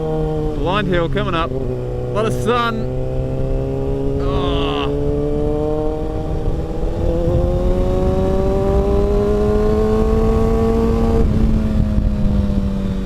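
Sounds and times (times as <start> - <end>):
low wind rumble: 0.0 - 13.0
motorcycle engine revving: 0.0 - 13.0.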